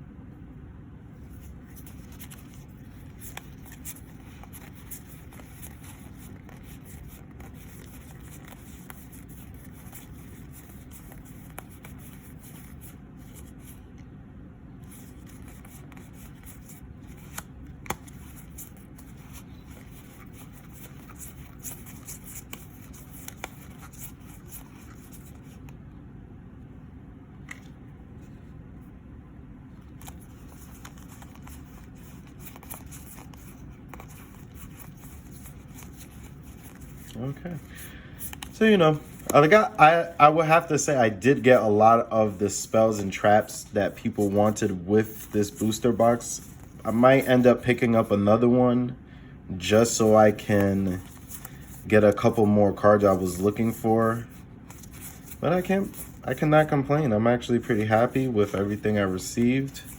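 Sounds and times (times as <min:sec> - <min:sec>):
low room hum: 0:00.0 - 0:59.9
trading cards sliding and clicking: 0:01.2 - 0:13.9, 0:14.8 - 0:25.8, 0:29.8 - 0:48.2, 0:49.6 - 0:56.6, 0:57.6 - 0:59.9.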